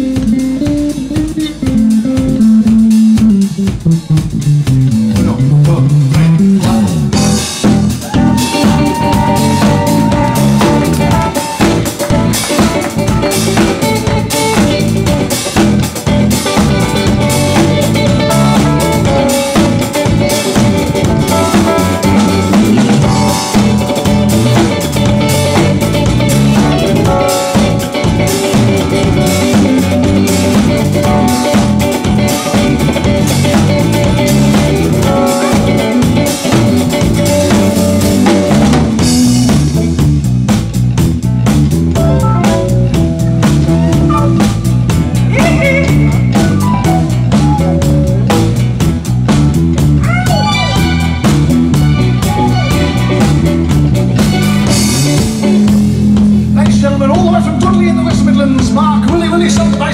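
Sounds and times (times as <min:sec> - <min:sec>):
bass guitar: 0:00.0 - 0:59.9
drum kit playing: 0:00.0 - 0:59.9
electric guitar: 0:00.0 - 0:59.9.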